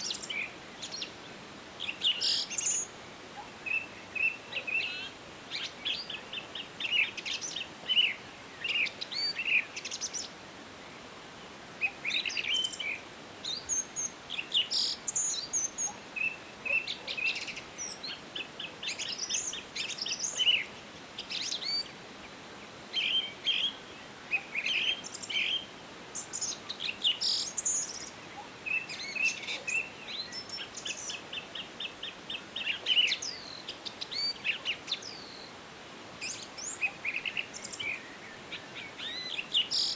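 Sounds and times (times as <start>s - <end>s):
faint background hiss: 0.0s - 39.9s
songbirds singing and trilling: 0.0s - 39.9s.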